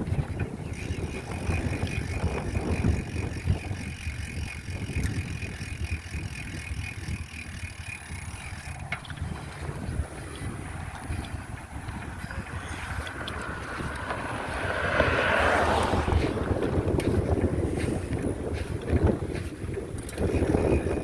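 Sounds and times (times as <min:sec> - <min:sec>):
bicycle hub click: 0:00.0 - 0:21.0
wind and road rumble: 0:00.0 - 0:21.0
bicycle freewheel ticking: 0:00.3 - 0:15.0, 0:15.6 - 0:21.0.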